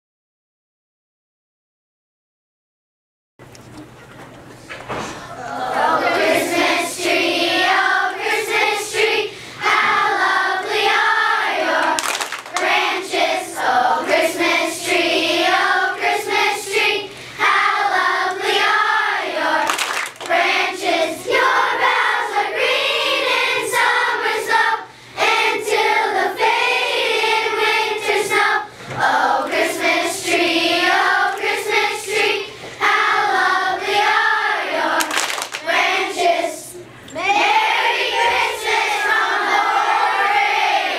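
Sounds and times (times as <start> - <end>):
children's choir singing: 5.0 - 40.9.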